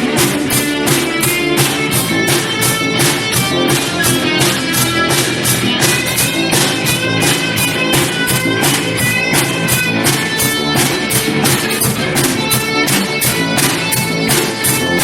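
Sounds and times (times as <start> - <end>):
fiddle melody: 0.0 - 15.0
steady drum beat: 0.0 - 15.0
strummed guitar: 0.0 - 15.0.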